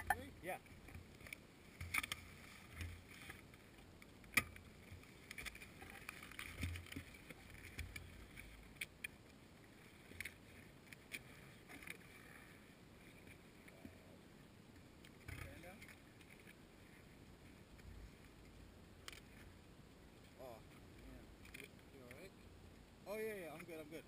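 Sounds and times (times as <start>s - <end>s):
faint clicks and knocks: 0.0s - 14.0s, 14.7s - 19.6s, 20.7s - 22.3s.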